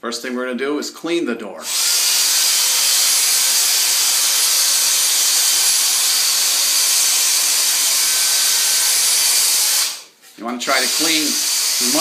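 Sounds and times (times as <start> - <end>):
handheld vacuum running: 1.6 - 10.1, 10.8 - 12.0.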